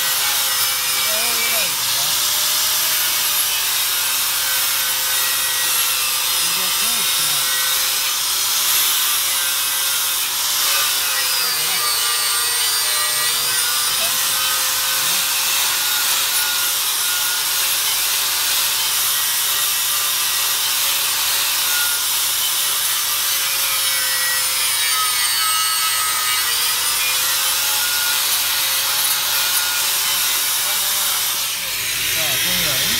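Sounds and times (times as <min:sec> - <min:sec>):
angle grinder grinding metal: 0:00.0 - 0:32.9.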